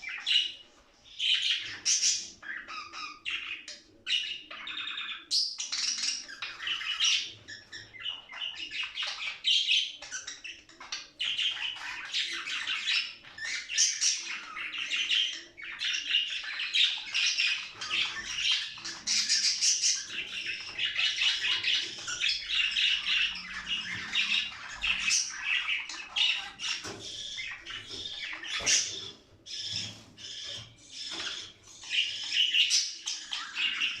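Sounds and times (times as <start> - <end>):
budgerigars chattering and warbling: 0.0 - 34.0.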